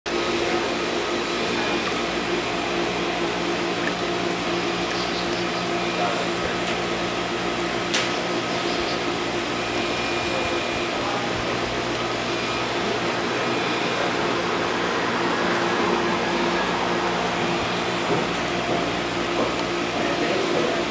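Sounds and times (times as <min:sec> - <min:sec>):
pump machinery hum: 0:00.1 - 0:20.9.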